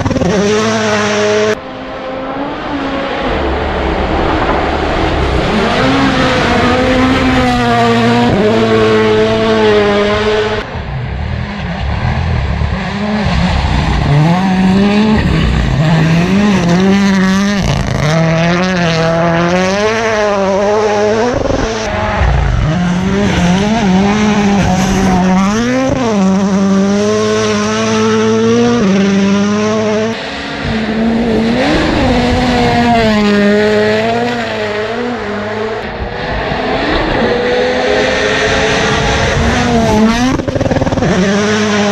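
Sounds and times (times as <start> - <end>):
rally car engines revving past: 0.0 - 41.9.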